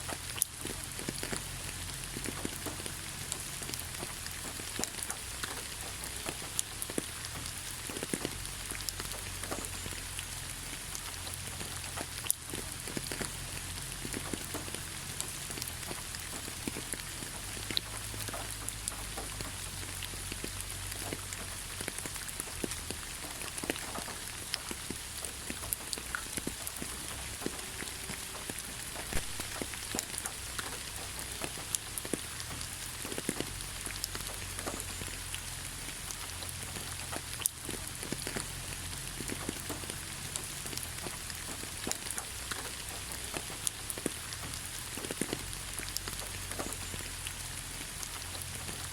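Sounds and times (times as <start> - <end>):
rain falling on leaves: 0.0 - 48.9.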